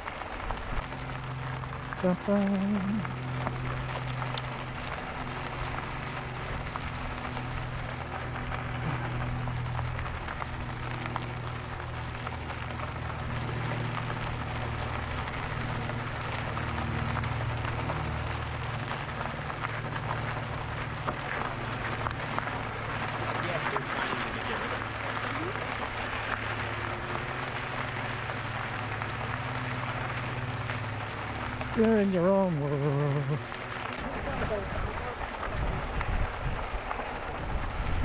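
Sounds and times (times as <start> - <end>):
bike tyres rolling on trail: 0.0 - 38.0
low electric motor hum: 0.0 - 38.0.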